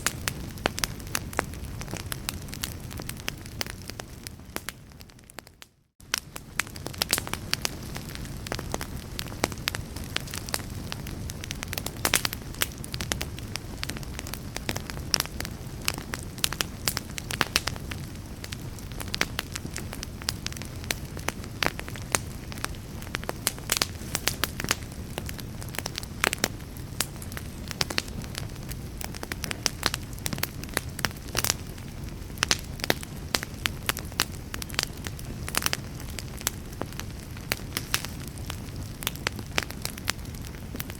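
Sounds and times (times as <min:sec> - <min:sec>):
fire crackling in fireplace: 0:00.0 - 0:40.9.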